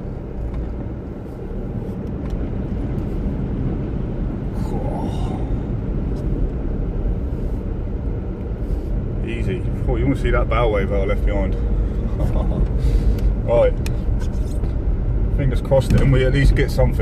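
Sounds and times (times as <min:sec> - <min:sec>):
car driving through floodwater: 0:00.0 - 0:14.2.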